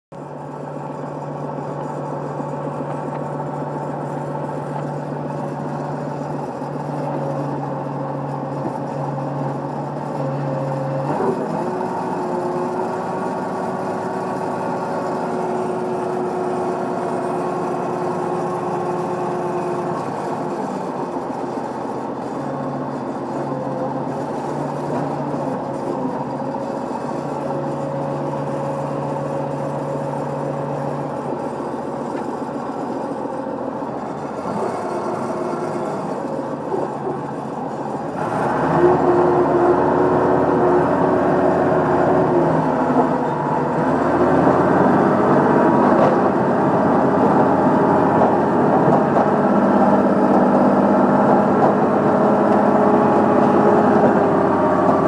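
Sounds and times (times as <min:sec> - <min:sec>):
track loader engine running: 0:00.1 - 0:55.0.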